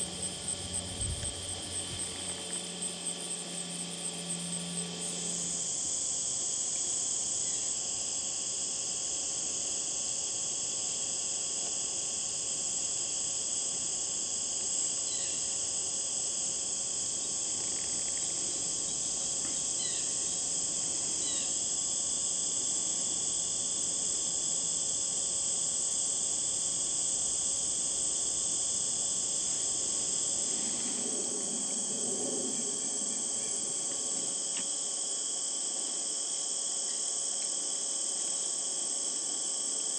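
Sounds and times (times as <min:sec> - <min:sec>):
crickets and insects chorus: 0:00.0 - 0:39.9.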